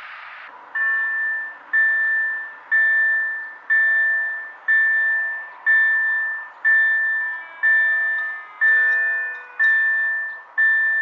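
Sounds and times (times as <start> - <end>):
level crossing warning bell ringing: 0.5 - 11.0.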